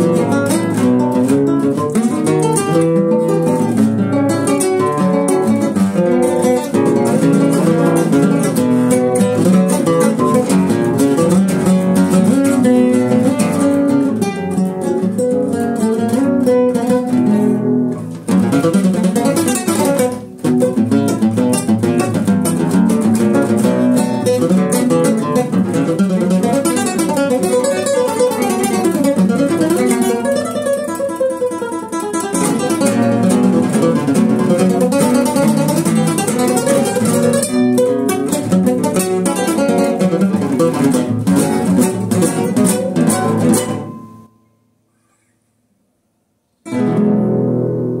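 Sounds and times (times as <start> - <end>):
classical guitar duet: 0.0 - 45.0, 46.6 - 48.0.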